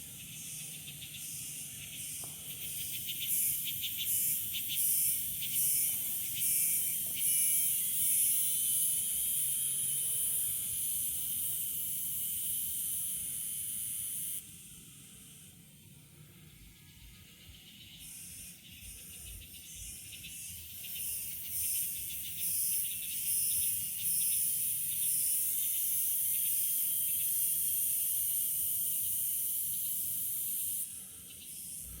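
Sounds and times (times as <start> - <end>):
insects buzzing shrilly: 0.0 - 32.0.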